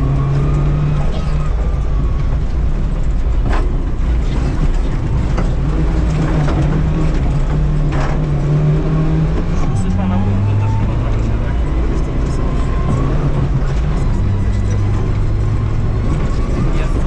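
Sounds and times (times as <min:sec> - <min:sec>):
constant rumble: 0:00.0 - 0:17.0
rally car engine under load: 0:00.0 - 0:17.0.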